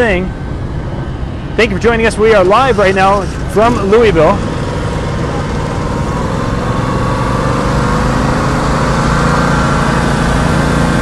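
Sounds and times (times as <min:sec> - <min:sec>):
mower engine running: 0:00.6 - 0:11.0.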